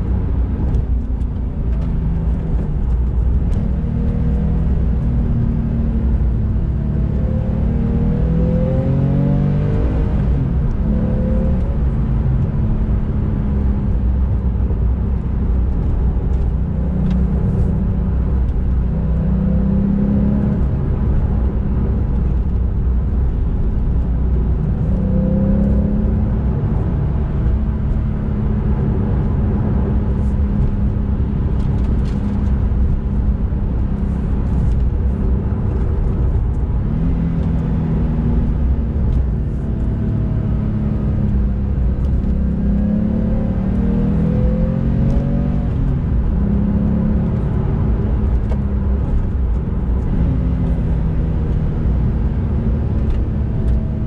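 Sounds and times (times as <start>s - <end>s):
car engine accelerating: 0.0s - 54.0s
road noise rumble: 0.0s - 54.0s.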